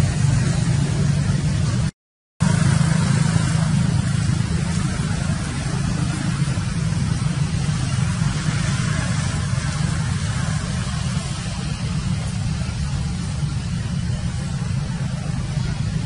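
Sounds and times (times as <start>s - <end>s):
steady low rumbling: 0.0s - 16.0s
hiss: 2.5s - 16.0s.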